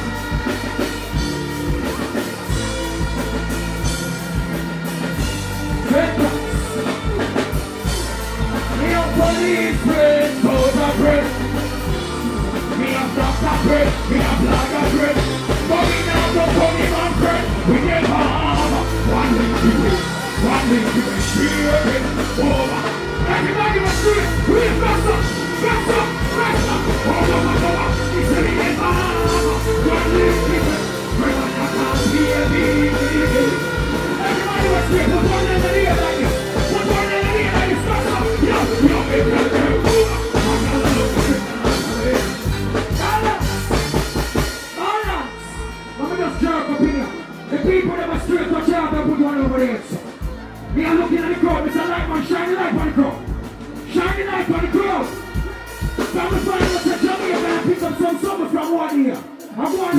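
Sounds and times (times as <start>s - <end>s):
person singing or shouting: 0.0s - 43.8s, 53.9s - 59.9s
bass: 0.0s - 59.9s
drum kit: 0.0s - 59.9s
live band playing through pa: 0.0s - 59.9s.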